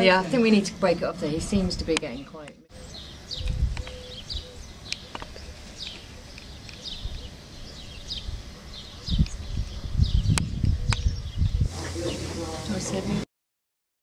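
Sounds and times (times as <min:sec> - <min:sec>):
small birds chirping: 0:01.9 - 0:13.2.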